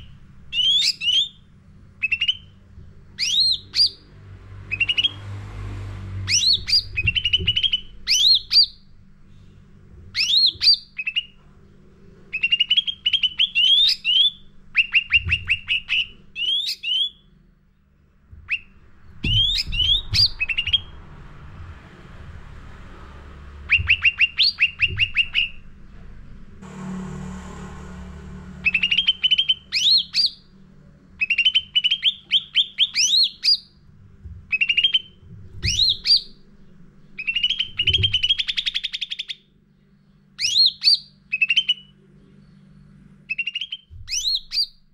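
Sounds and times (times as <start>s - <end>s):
songbird singing: 0.0s - 5.4s, 6.2s - 9.0s, 10.1s - 11.5s, 12.2s - 21.1s, 23.6s - 26.0s, 28.4s - 33.8s, 34.5s - 44.9s
faint low hum: 0.0s - 44.9s.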